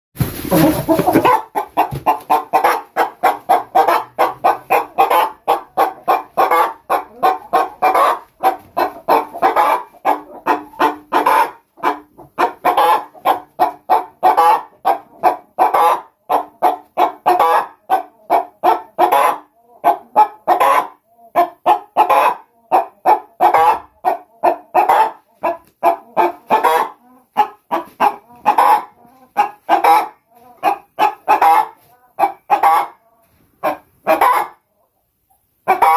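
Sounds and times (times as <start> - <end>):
hens clucking and cackling: 0.2 - 35.9.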